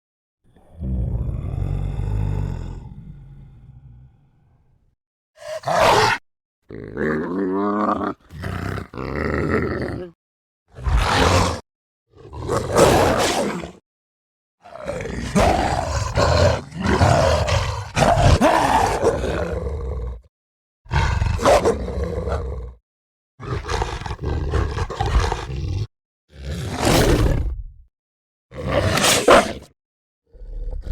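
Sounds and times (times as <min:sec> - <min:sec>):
creature roars: 0:00.5 - 0:04.5, 0:05.4 - 0:13.8, 0:14.6 - 0:20.3, 0:20.9 - 0:22.8, 0:23.4 - 0:27.8, 0:28.5 - 0:30.9.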